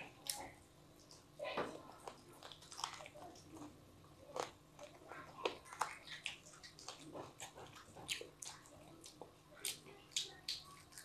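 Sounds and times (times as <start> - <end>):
child chewing and lip-smacking: 0.0 - 11.0.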